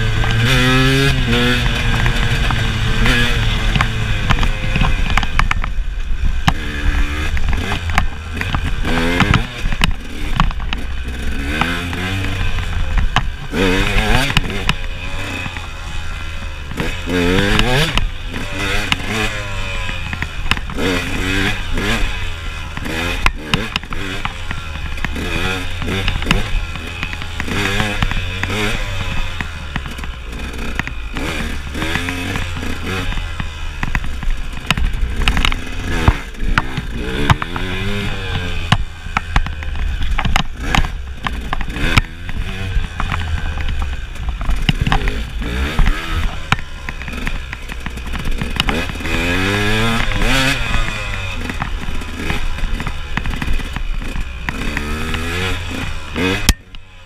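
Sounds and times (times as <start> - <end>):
knocks and clatter from bike: 0.0 - 57.0
motorcycle engine revving: 0.0 - 57.0.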